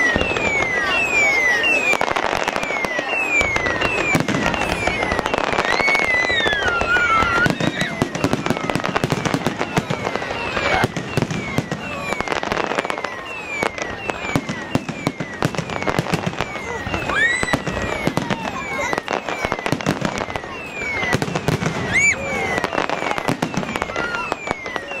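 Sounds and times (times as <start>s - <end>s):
falling firework whistles: 0.0s - 25.0s
fireworks bangs and crackling: 0.0s - 25.0s.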